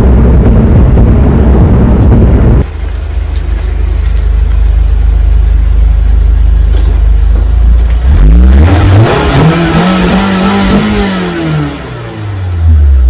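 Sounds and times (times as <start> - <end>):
car engine rumble and revving: 0.0 - 13.0
road noise: 0.0 - 13.0.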